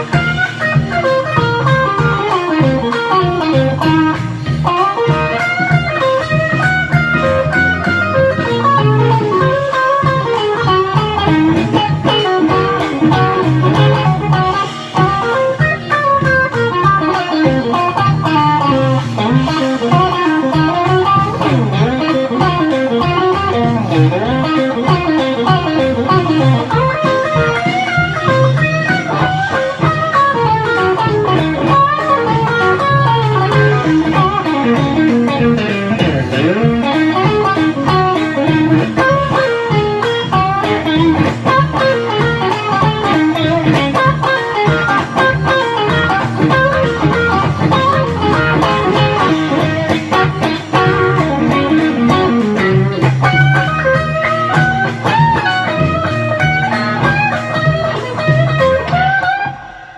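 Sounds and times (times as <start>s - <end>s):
electric guitar blues solo: 0.0s - 59.9s.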